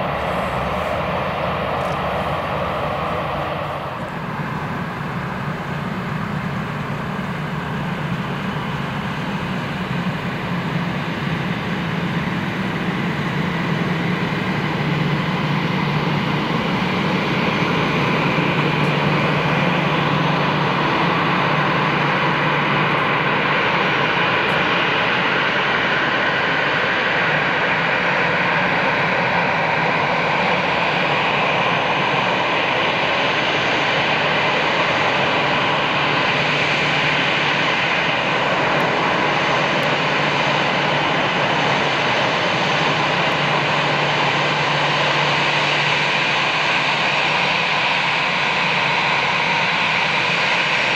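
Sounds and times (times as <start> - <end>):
jet engines at taxi power: 0.0 - 50.9.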